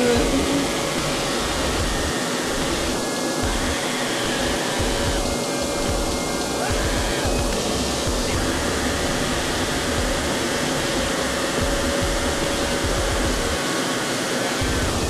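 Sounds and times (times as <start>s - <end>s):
faint steady hum: 0.0s - 15.0s
steady rushing noise: 0.0s - 15.0s.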